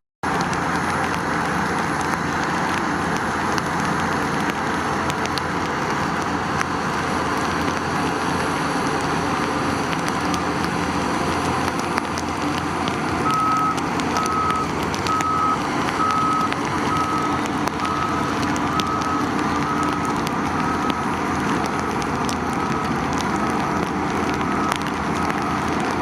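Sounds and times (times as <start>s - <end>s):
diesel machine running: 0.2s - 26.0s.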